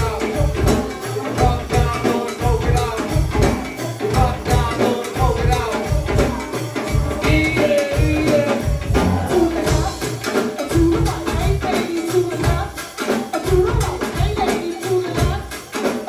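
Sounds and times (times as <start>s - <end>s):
drum and bass beat: 0.0s - 16.0s
hand percussion: 0.0s - 16.0s
live band playing: 0.0s - 16.0s
voices: 0.0s - 16.0s.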